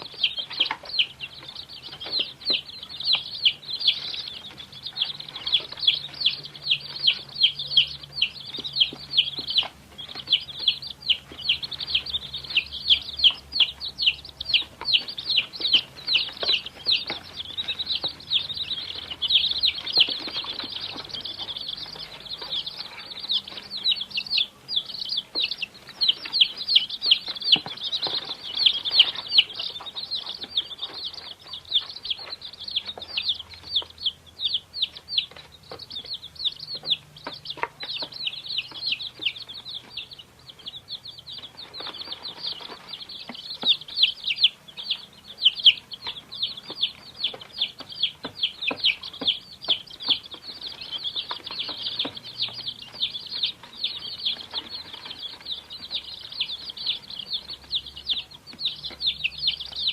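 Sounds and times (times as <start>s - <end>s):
baby chickens peeping: 0.0s - 59.9s.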